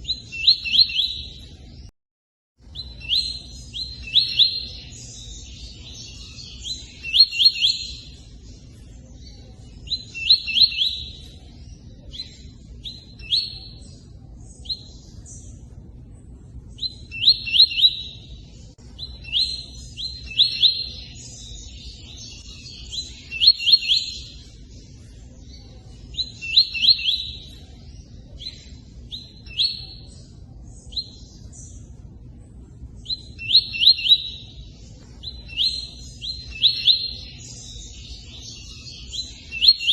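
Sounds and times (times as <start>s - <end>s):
songbird singing sharp notes: 0.0s - 1.9s, 2.6s - 39.9s.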